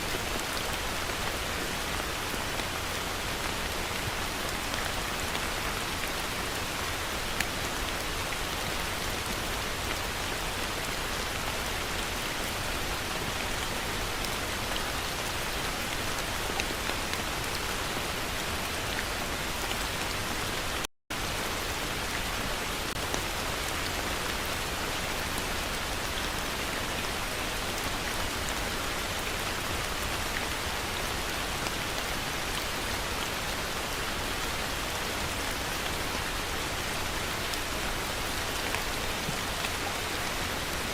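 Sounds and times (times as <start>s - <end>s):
heavy rain falling: 0.0s - 40.9s
loud raindrops: 0.0s - 40.9s.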